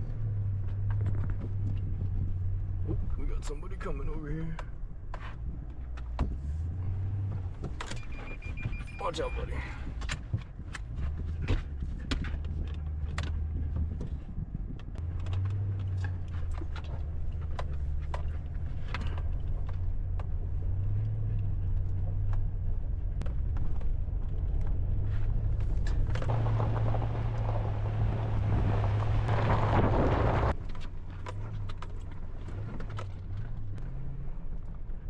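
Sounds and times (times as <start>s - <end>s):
truck engine and road drone: 0.0s - 35.0s.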